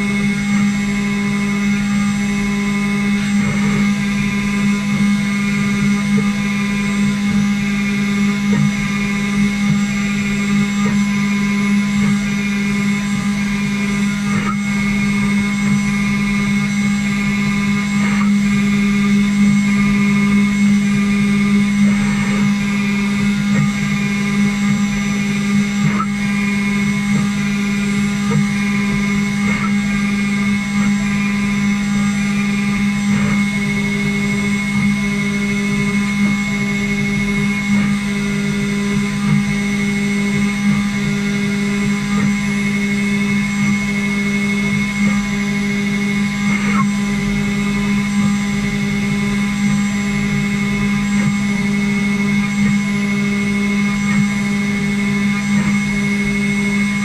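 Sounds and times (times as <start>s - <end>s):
router spindle humming and whining: 0.0s - 57.0s.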